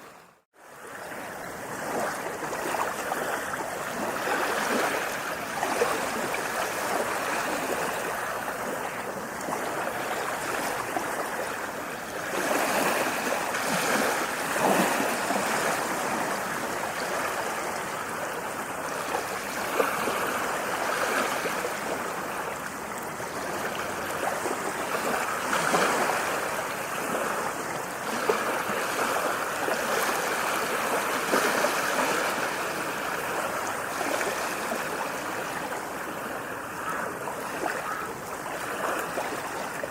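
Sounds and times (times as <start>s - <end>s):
ocean waves: 0.0s - 39.9s.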